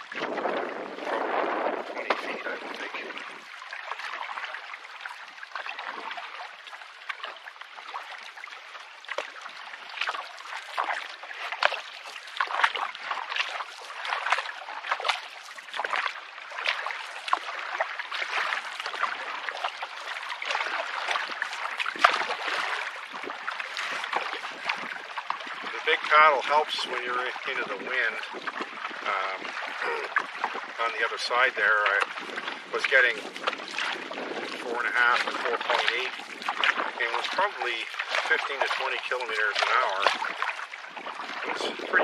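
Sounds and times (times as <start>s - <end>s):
paddle splashes: 0.0s - 42.0s
water lapping around canoe: 0.0s - 42.0s.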